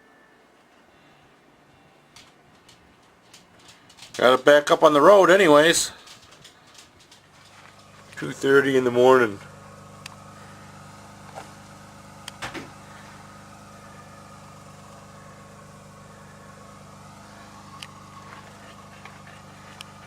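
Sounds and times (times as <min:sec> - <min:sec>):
vehicle engine running: 0:02.2 - 0:20.0.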